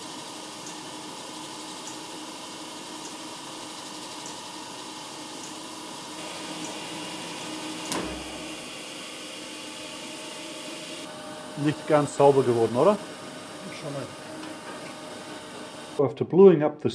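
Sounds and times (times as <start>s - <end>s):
grinding wheel grinding steel: 0.0s - 16.0s
machine hum: 0.0s - 16.0s.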